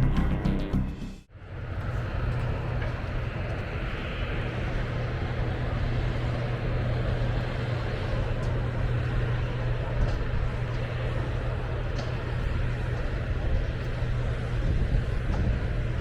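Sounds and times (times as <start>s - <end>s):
motor droning: 0.0s - 16.0s
outdoor noise: 0.0s - 16.0s.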